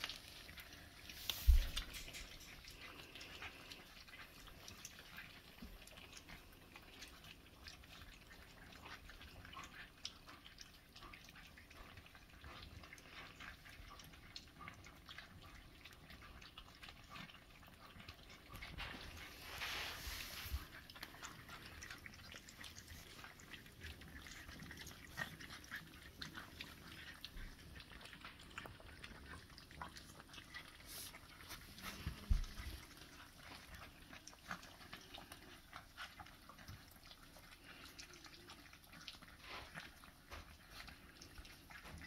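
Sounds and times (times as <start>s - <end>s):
puppies crunching kibble: 0.0s - 42.0s.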